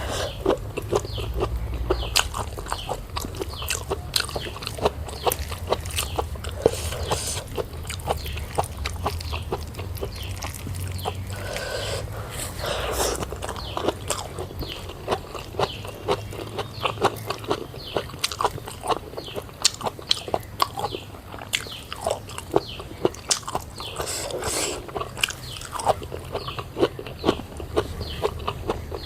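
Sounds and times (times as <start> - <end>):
chewing and crunching: 0.0 - 29.0.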